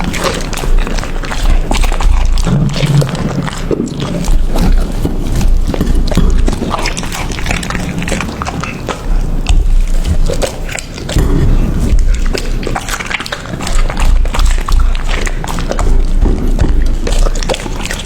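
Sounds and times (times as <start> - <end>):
dog chewing and crunching food: 0.0 - 18.0.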